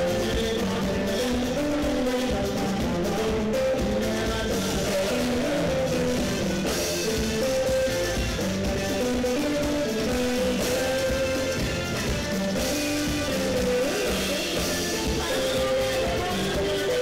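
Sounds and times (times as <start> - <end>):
bass guitar: 0.0 - 17.0
drum kit: 0.0 - 17.0
electric guitar lines: 0.0 - 17.0.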